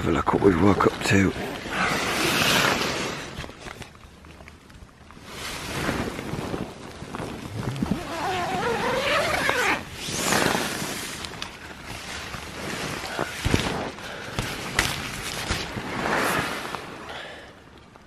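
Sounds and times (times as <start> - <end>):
nylon tent fabric rustling: 0.0 - 17.1.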